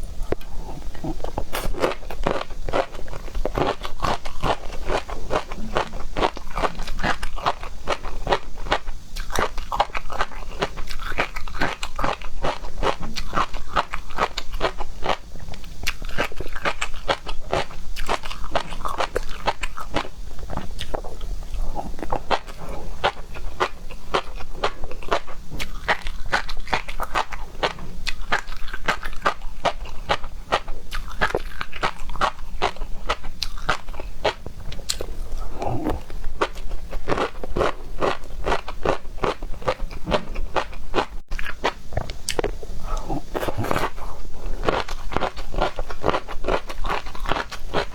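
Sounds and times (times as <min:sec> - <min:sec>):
chewing crunching: 0:00.0 - 0:47.9.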